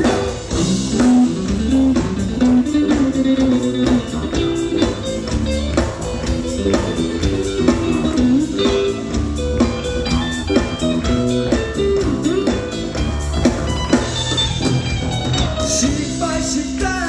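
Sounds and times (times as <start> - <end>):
bass guitar: 0.0 - 17.0
drum kit beat: 0.0 - 17.0
electric guitar riff: 0.0 - 17.0.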